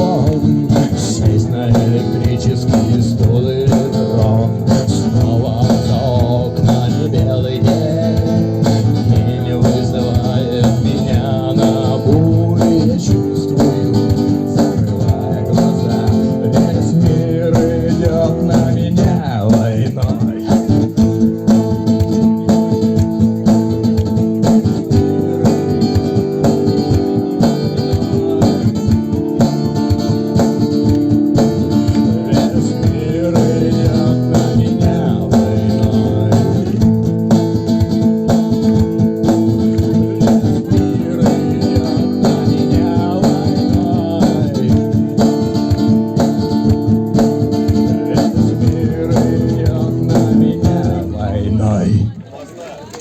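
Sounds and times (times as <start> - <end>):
guitar melody line: 0.0 - 51.8
looped acoustic guitar strumming: 0.0 - 52.2.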